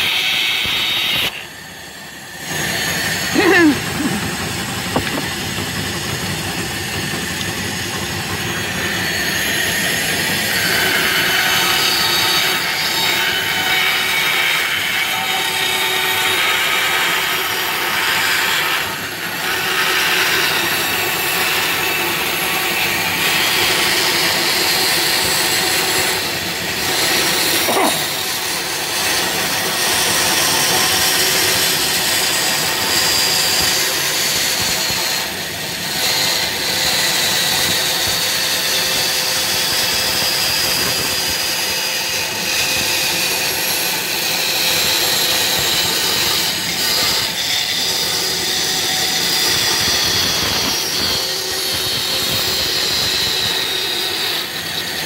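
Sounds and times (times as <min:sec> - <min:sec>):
bandsaw cutting plywood: 0:00.0 - 0:55.0.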